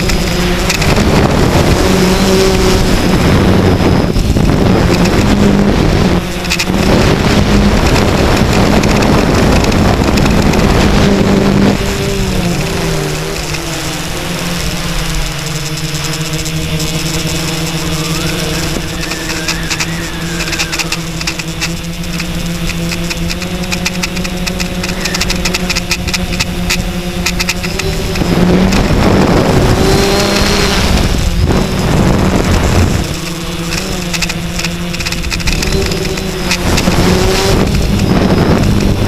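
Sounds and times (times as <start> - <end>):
drone motors humming: 0.0 - 39.0
rushing air noise: 0.0 - 39.0.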